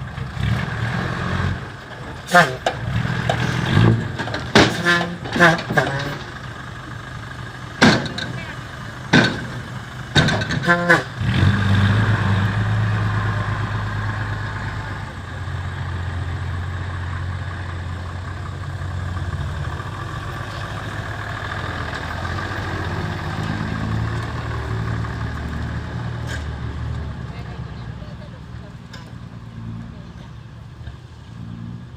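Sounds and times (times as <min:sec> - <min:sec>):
dump truck engine running: 0:00.0 - 0:31.9.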